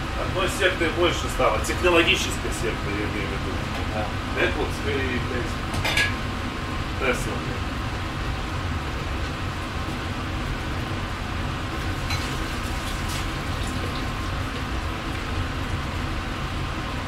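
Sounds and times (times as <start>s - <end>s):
ventilation and machinery hum: 0.0s - 17.0s.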